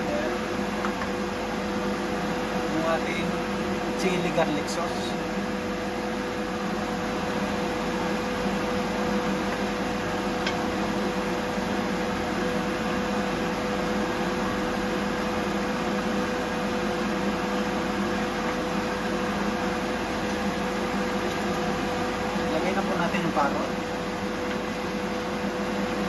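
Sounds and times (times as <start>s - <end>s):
fan whirring: 0.0s - 26.0s
mid-pitched hum: 0.0s - 26.0s.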